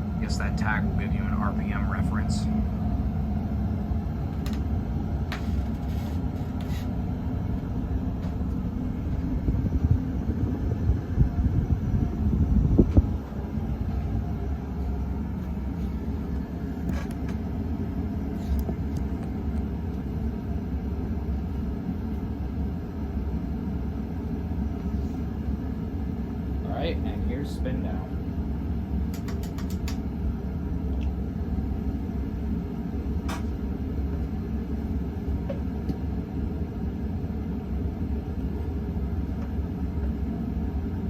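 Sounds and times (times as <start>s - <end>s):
ceiling fan motor rumble: 0.0s - 41.0s.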